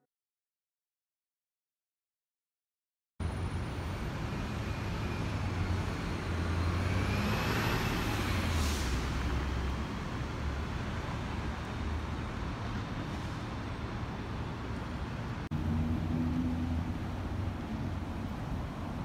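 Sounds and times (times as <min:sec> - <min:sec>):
traffic rumble: 0:03.2 - 0:19.0.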